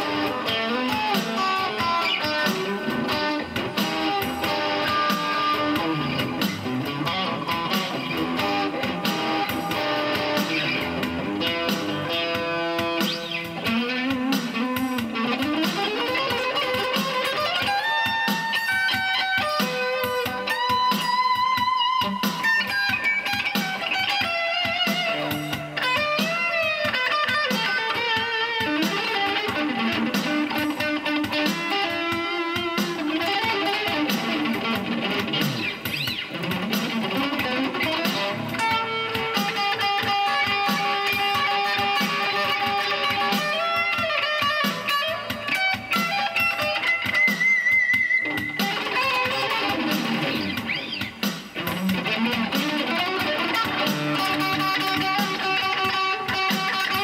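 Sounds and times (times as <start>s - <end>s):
electric guitar shuffle: 0.0s - 57.0s.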